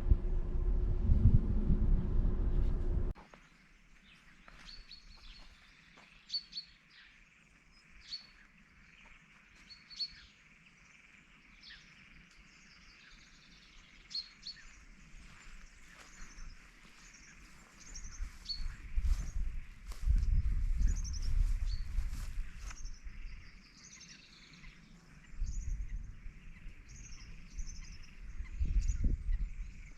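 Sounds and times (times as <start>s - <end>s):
faint outdoor background noise: 0.0s - 29.9s
small birds chirping: 3.2s - 29.9s.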